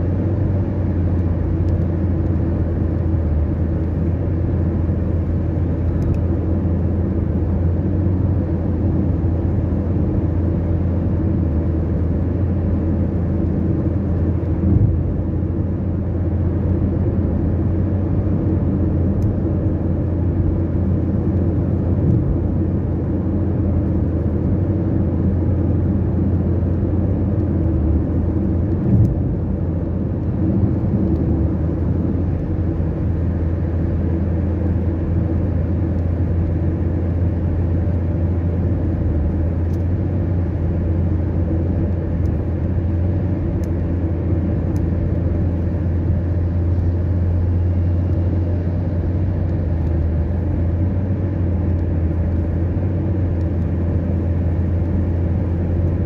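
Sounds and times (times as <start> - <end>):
car driving from inside cabin: 0.0 - 56.0.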